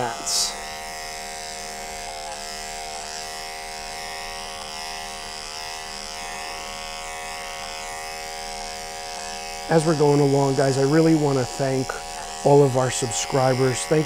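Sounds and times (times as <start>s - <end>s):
electric clipper buzzing: 0.0s - 14.0s.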